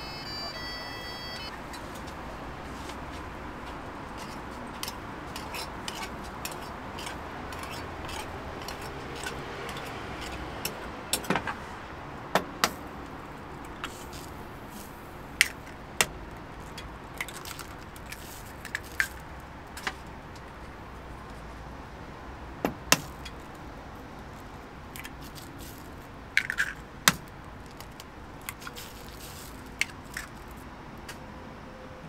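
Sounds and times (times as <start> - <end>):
low background noise: 0.0 - 32.0.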